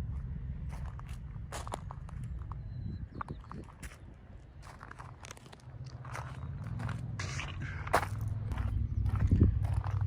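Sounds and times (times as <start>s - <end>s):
footsteps on gravel: 0.0s - 10.0s
low steady rumble: 0.0s - 10.0s.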